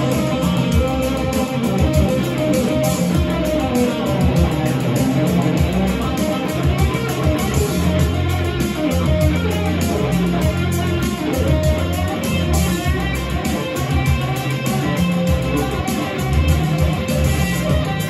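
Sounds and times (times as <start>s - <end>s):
bass line: 0.0s - 18.0s
electric guitar solo: 0.0s - 18.0s
steady drum beat: 0.0s - 18.0s.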